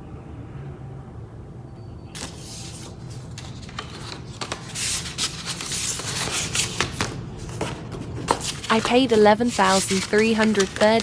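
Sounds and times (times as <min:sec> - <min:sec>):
packaging rustling: 0:02.2 - 0:11.0.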